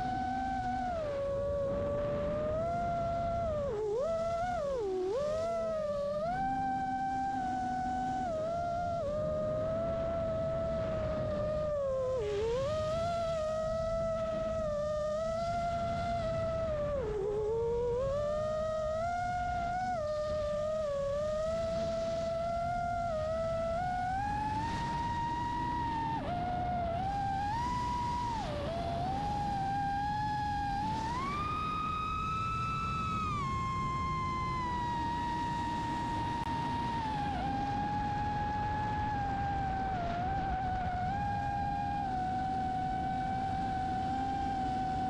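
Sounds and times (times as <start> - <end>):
low wind rumble: 0.0 - 45.0
quadcopter motors whining: 0.0 - 45.0.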